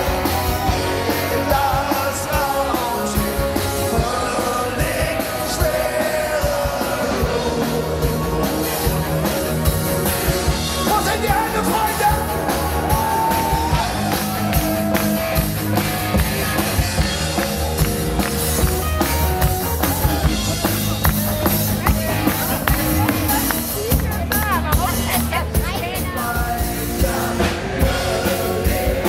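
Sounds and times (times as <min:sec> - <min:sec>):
live rock band with singer: 0:00.0 - 0:29.0.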